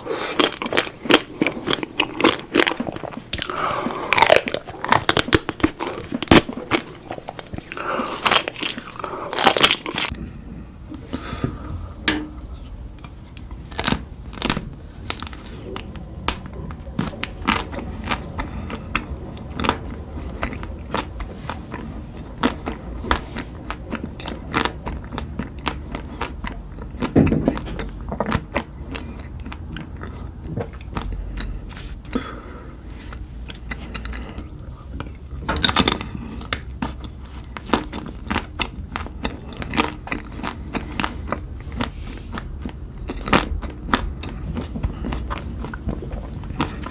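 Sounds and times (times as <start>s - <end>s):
person crunching and chewing: 0.0s - 46.9s.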